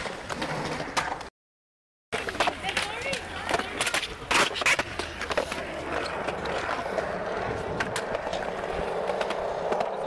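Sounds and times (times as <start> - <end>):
skateboard wheels rolling on concrete: 0.0 - 1.3, 2.1 - 10.0.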